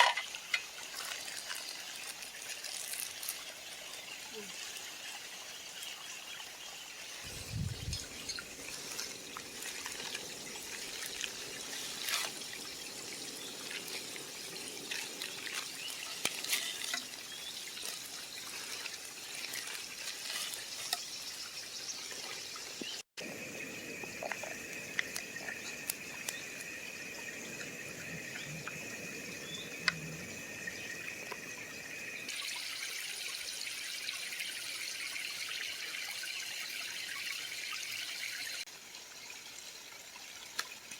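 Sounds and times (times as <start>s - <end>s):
creek water trickling: 0.0s - 40.9s.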